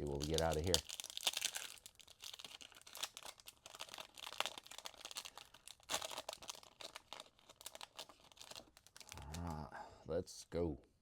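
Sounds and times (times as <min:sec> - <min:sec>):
wrapper tearing and crinkling: 0:00.0 - 0:09.6.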